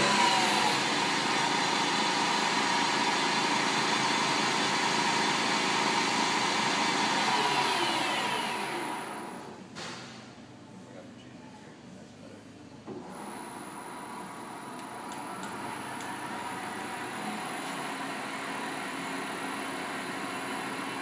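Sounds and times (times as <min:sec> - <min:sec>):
lathe spindle whirring: 0:00.0 - 0:09.5, 0:13.0 - 0:21.0.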